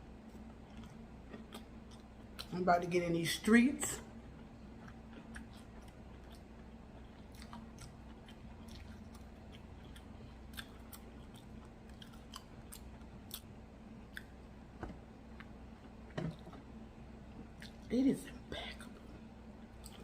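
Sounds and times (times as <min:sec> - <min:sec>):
faint steady hum: 0:00.0 - 0:20.0
person chewing crunchy food: 0:00.1 - 0:02.6, 0:04.2 - 0:17.9, 0:18.9 - 0:20.0.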